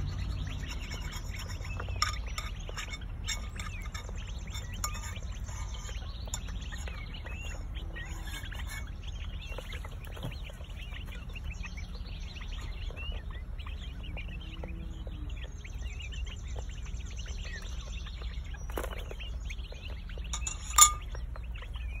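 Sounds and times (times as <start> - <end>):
low steady rumble: 0.0 - 22.0
quail chicks chirping: 0.0 - 22.0.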